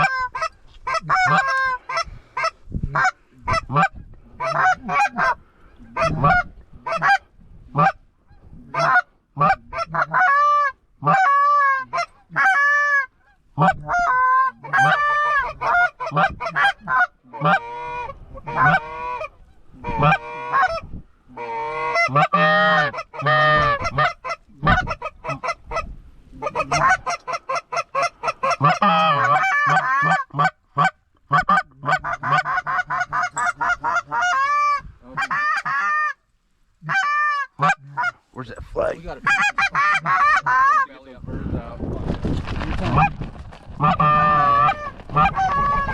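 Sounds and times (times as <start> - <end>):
geese honking and clucking: 0.0 - 36.2, 36.8 - 41.6, 43.8 - 45.9.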